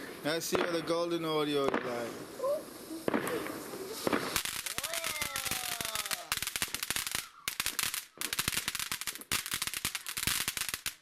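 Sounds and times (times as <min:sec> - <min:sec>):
fountain firework crackling: 0:00.0 - 0:11.0.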